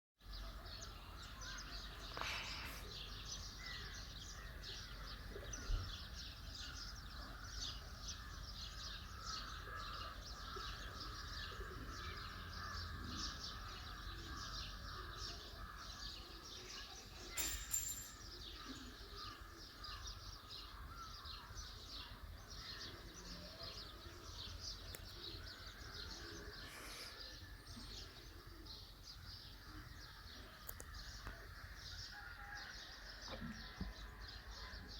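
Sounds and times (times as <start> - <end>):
birds chirping chorus: 0.2 - 34.9.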